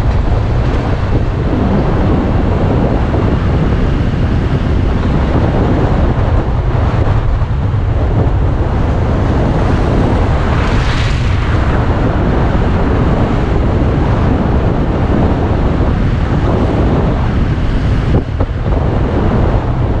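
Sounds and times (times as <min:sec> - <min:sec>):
road and engine noise: 0:00.0 - 0:20.0
wind buffeting microphone: 0:00.0 - 0:20.0.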